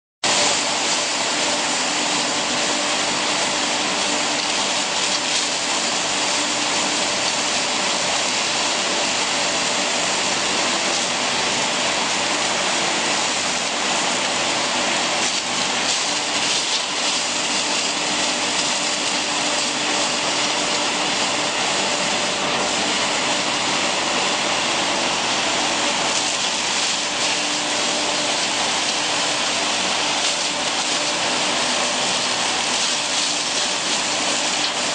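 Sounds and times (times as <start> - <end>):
hammer mill running: 0.2 - 34.9.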